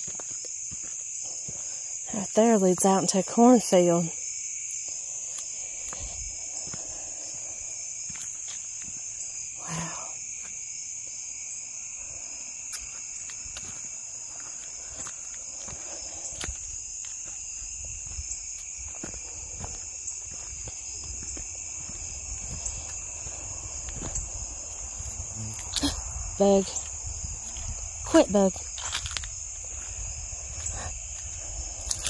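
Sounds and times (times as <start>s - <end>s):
footsteps on dirt and leaves: 0.0s - 2.9s, 4.5s - 9.6s, 10.2s - 32.0s
crickets and insects trilling: 0.0s - 32.0s.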